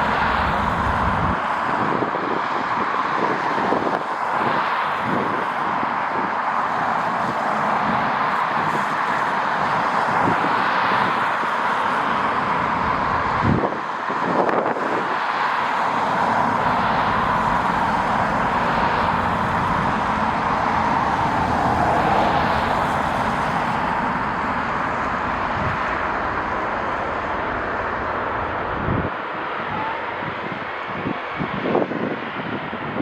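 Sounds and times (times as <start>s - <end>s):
jet engines rumbling with whine: 0.0s - 33.0s.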